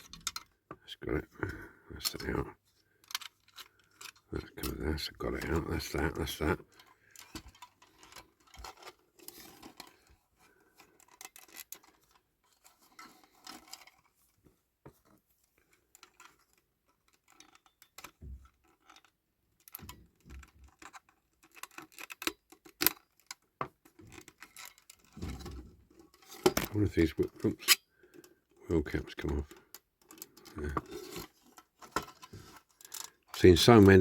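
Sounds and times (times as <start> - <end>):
light clicks and scrapes of parts: 0.0 - 34.0.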